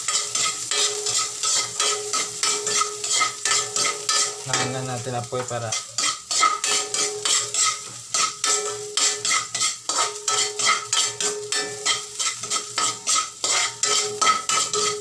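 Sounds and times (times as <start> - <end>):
light sizzle: 0.0 - 15.0
metal spatula scraping wok: 0.0 - 15.0.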